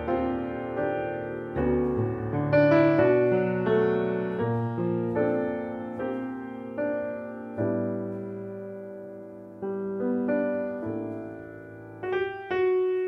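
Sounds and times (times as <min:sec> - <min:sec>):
slow solo piano music: 0:00.0 - 0:13.0.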